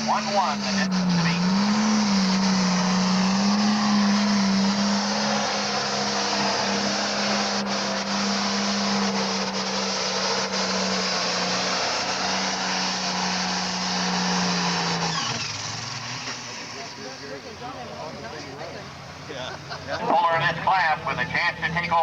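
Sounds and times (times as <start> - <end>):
tractor engine at full throttle: 0.0 - 22.0.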